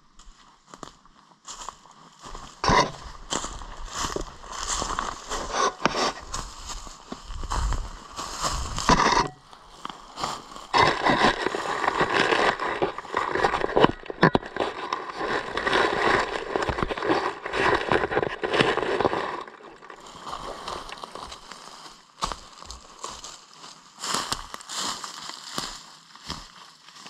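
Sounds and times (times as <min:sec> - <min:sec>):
dry leaves crackling underfoot: 0:00.7 - 0:27.0.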